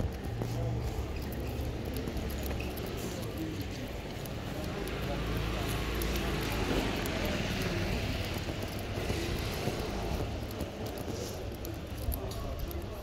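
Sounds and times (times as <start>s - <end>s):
traffic passing on street: 0.0s - 13.0s.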